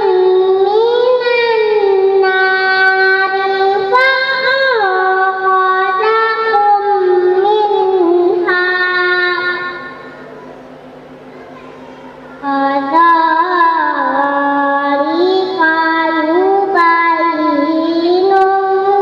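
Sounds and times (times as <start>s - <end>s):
girl reciting melodically: 0.0s - 19.0s.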